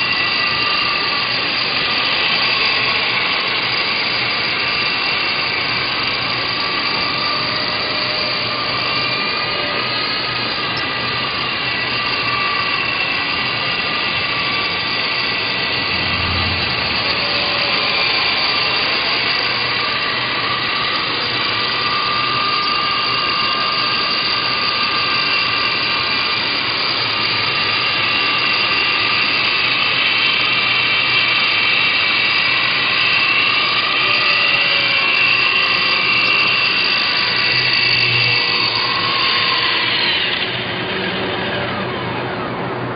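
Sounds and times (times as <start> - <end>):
model helicopter motor whine: 0.0 - 42.9.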